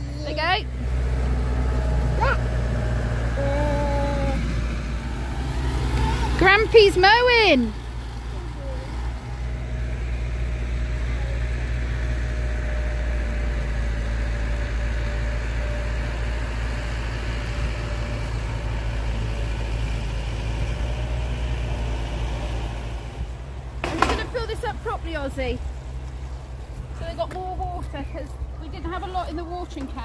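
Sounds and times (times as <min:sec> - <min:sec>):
lawnmower engine running: 0:00.0 - 0:27.2.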